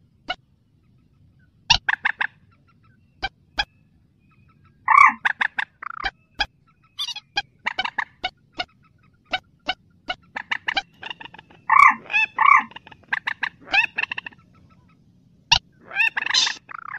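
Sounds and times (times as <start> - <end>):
rail bird calls: 0.0 - 16.9.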